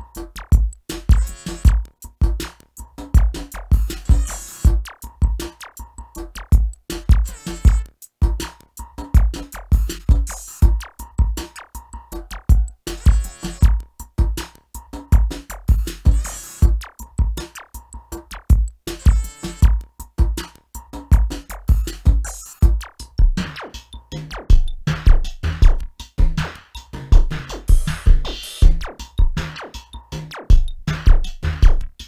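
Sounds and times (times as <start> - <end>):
drum machine beat: 0.0 - 32.0.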